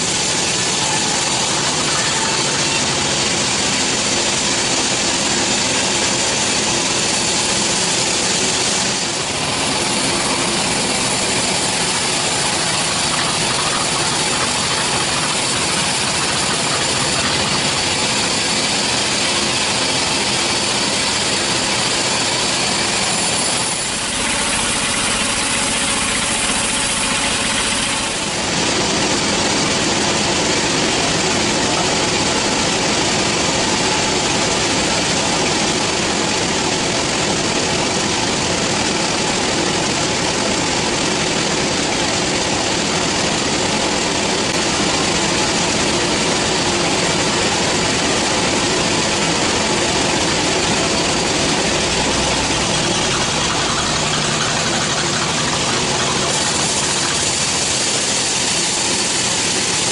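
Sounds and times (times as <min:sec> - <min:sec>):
band saw machine noise: 0:00.0 - 0:59.9.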